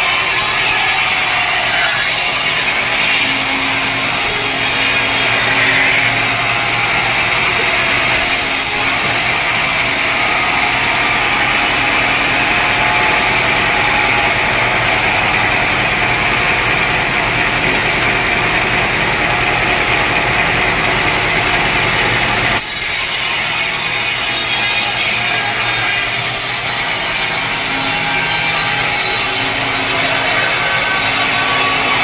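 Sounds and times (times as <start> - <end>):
saw whining through wood: 0.0 - 32.0.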